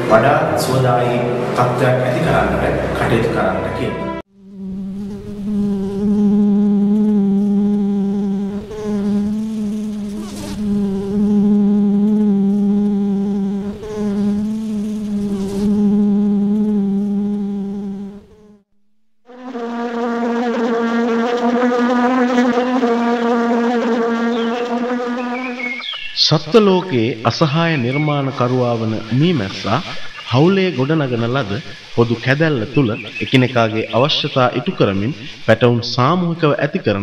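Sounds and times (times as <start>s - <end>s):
honeybees buzzing: 4.3s - 18.6s, 19.3s - 35.5s.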